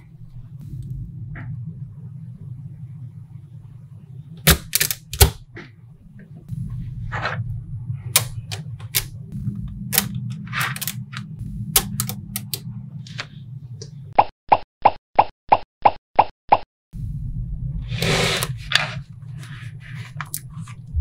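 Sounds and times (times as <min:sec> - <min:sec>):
steady low hum: 0:00.0 - 0:14.2, 0:17.0 - 0:21.0.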